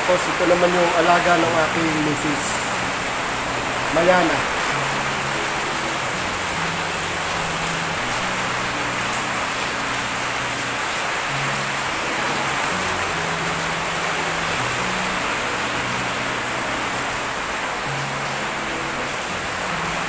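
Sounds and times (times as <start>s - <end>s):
heavy rain falling: 0.0s - 20.0s
soft slow background music: 0.0s - 20.0s.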